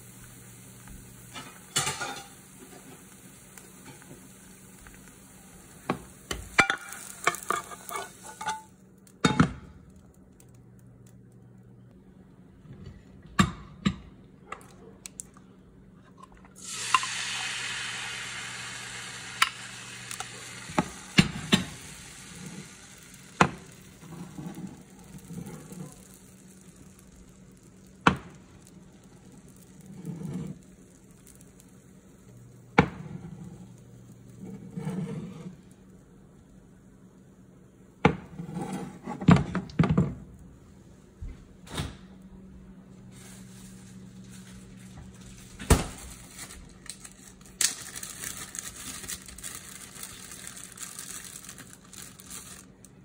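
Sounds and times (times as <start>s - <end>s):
hot pan sizzling: 0.0s - 11.8s, 16.5s - 39.4s, 42.7s - 53.0s.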